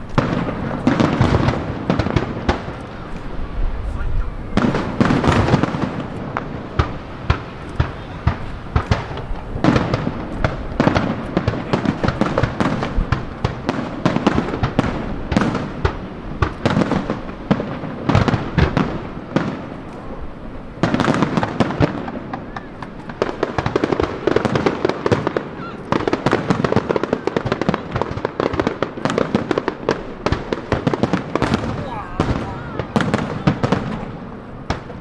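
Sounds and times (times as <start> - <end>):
fireworks cracking and banging: 0.0 - 35.0.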